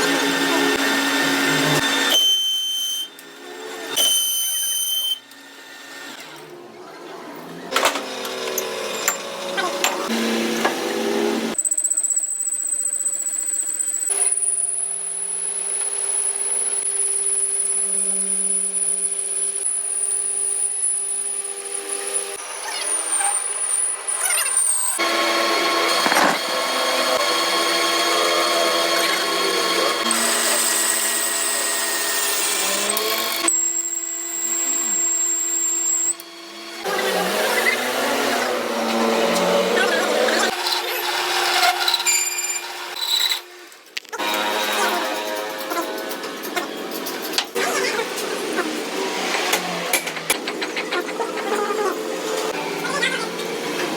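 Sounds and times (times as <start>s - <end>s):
power tools whining and humming: 0.0s - 53.9s.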